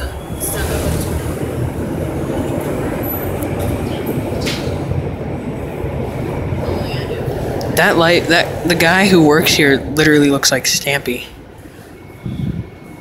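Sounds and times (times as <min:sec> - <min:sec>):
boat engines rumbling: 0:00.0 - 0:13.0.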